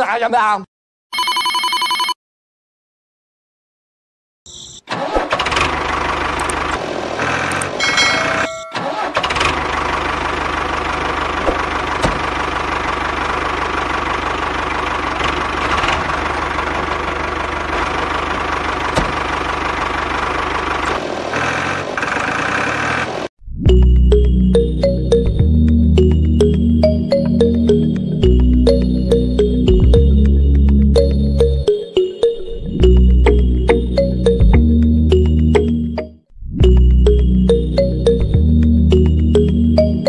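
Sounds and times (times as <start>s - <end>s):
tractor engine running: 4.9s - 31.8s, 32.8s - 40.0s.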